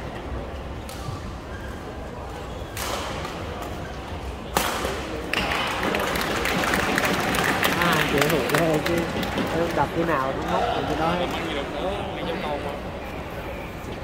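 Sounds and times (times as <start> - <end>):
crowd noise: 0.0 - 14.0
murmur of voices: 0.0 - 14.0.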